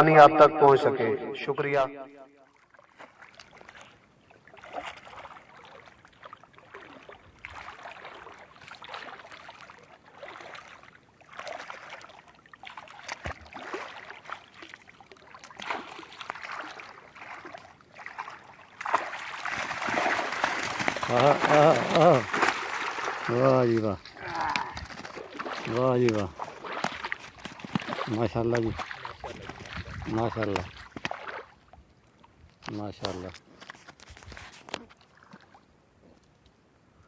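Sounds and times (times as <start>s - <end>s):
water sloshing and splashing: 2.4s - 36.3s.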